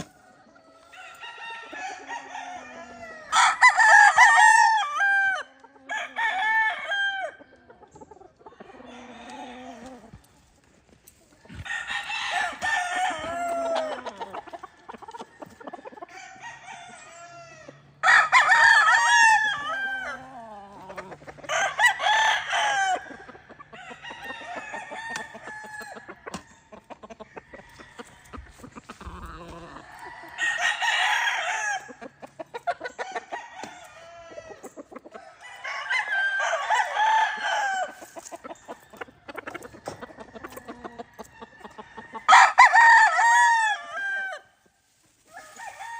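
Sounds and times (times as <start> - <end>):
distant roosters crowing: 0.0 - 7.4, 11.5 - 44.6, 45.2 - 45.9
roosters crowing: 0.0 - 7.4, 8.6 - 10.4, 11.5 - 45.9.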